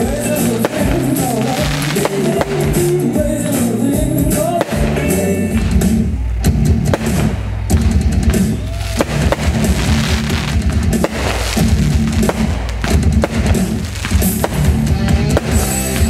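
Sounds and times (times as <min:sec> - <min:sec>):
fireworks bursting: 0:00.0 - 0:16.0
music with drums and guitar: 0:00.0 - 0:16.0.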